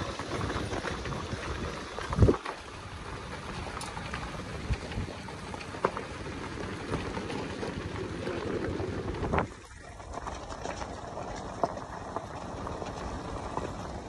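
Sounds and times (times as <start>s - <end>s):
gravel clicks: 0.0s - 14.0s
wind and tyres on gravel: 0.0s - 14.0s.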